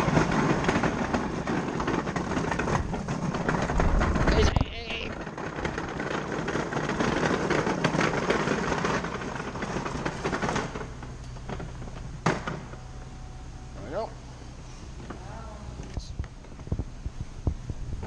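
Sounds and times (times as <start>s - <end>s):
shopping cart rattling: 0.0s - 18.0s.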